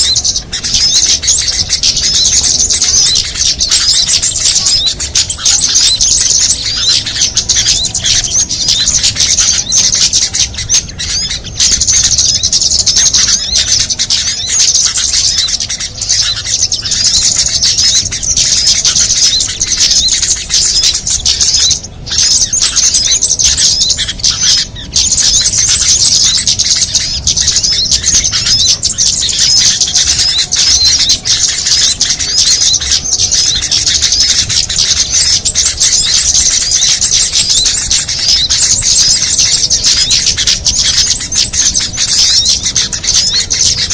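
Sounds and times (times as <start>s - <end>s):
songbirds chirping and trilling: 0.0s - 43.9s.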